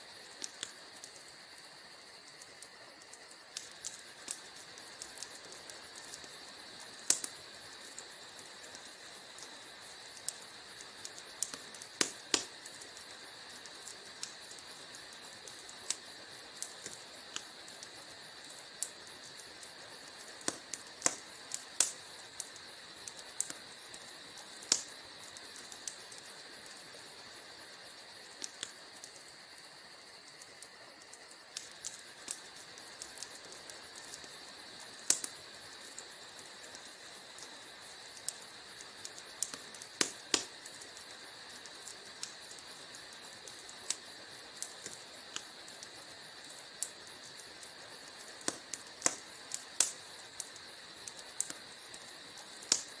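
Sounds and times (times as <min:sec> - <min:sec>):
steady high hiss of fire: 0:00.0 - 0:53.0
wood fire popping and snapping: 0:00.1 - 0:53.0.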